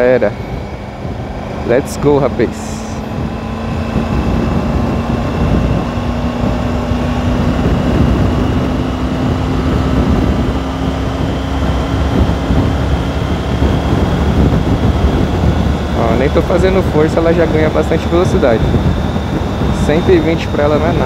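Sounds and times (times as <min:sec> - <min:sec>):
motorcycle engine accelerating: 0:00.0 - 0:21.0
wind rumble on microphone: 0:00.0 - 0:21.0.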